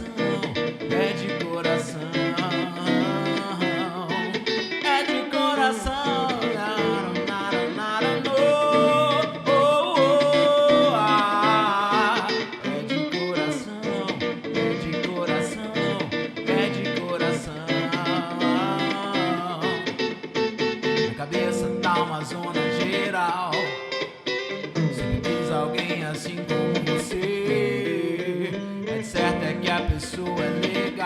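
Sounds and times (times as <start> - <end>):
soul song on guitar: 0.0 - 31.0.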